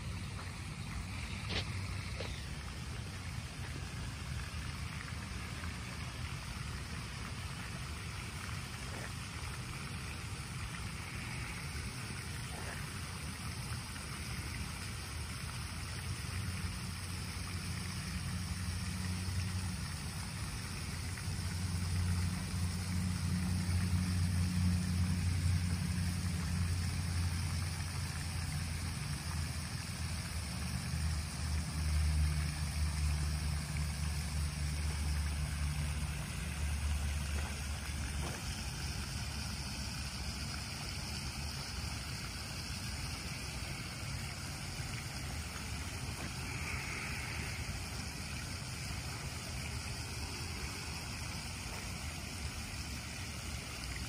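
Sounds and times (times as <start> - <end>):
fountain spraying and splashing: 0.0 - 54.0.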